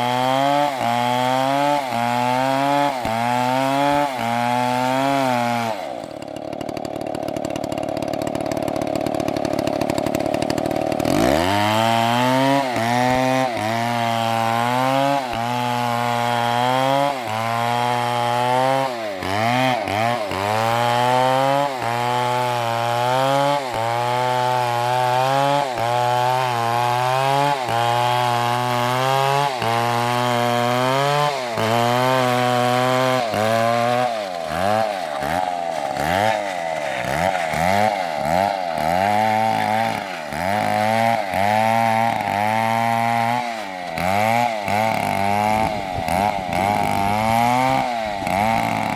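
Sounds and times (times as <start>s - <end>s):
chainsaw cutting into tree: 0.0s - 48.9s.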